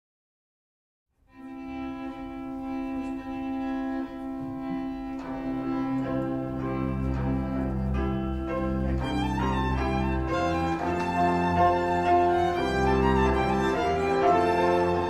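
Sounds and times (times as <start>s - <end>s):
violin: 1.2s - 15.0s
bowed double bass: 1.4s - 15.0s
accordion: 1.5s - 15.0s.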